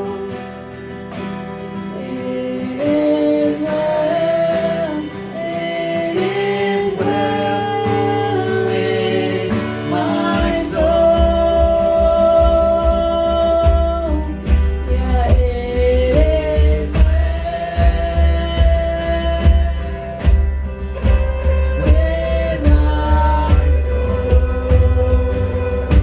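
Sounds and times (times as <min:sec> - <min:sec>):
guitar accompaniment: 0:00.0 - 0:26.0
bass line: 0:03.7 - 0:26.0.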